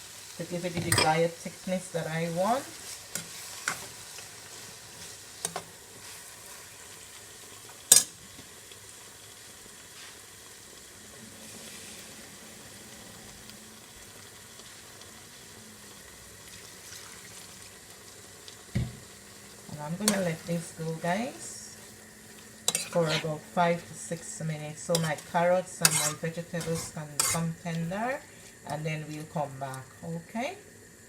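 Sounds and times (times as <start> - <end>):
food sizzling in a pot: 0.0 - 31.0.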